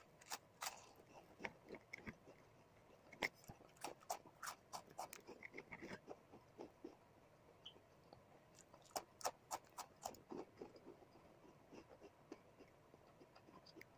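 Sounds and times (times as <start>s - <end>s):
food crunching while chewed: 0.0s - 7.0s, 8.1s - 13.9s.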